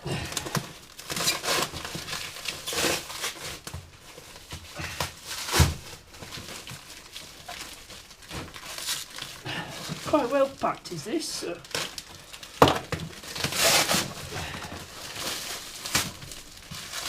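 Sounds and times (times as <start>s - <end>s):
cardboard parcel rustling and scraping: 0.2s - 17.0s.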